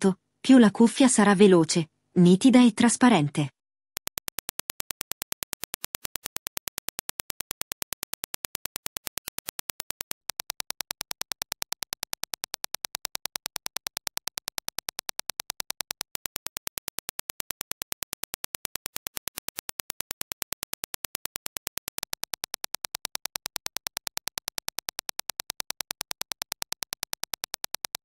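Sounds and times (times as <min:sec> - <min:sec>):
rapid impulse test clicks: 0:04.0 - 0:28.0.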